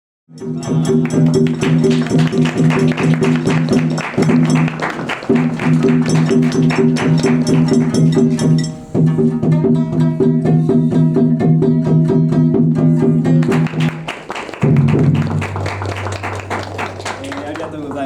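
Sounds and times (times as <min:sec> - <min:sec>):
drums in quick rhythm: 0:00.3 - 0:11.5, 0:13.2 - 0:18.0
plucked shamisen: 0:00.3 - 0:15.7.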